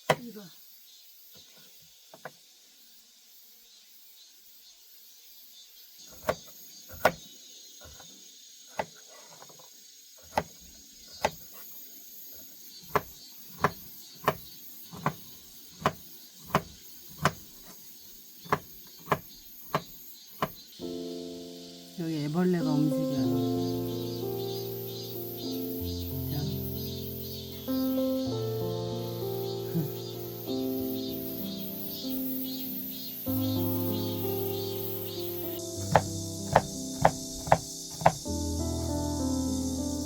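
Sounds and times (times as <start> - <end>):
high insect buzz: 0.0 - 40.0.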